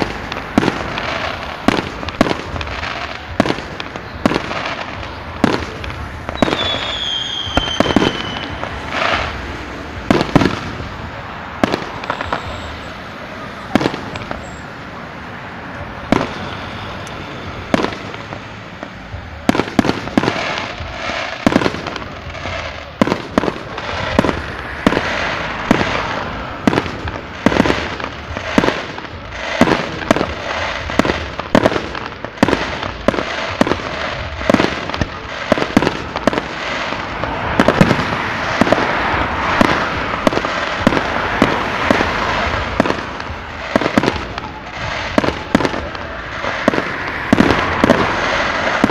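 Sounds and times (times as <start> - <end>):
fireworks bursting: 0.0 - 48.9
hiss of fireworks: 0.0 - 48.9.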